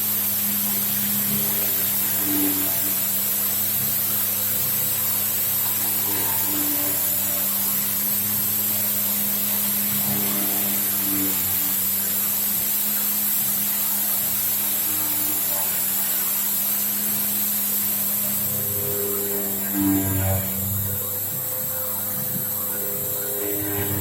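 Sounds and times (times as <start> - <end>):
milling machine cutting metal: 0.0 - 24.0.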